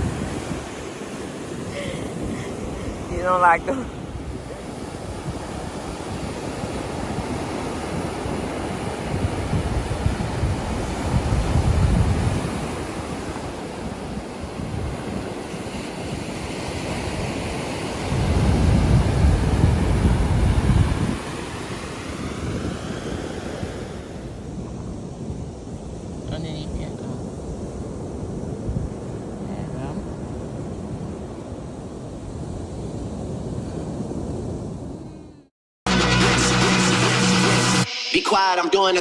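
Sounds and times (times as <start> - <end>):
ocean surf washing onto beach: 0.0 - 35.2
wind rumbling on microphone: 0.0 - 35.5.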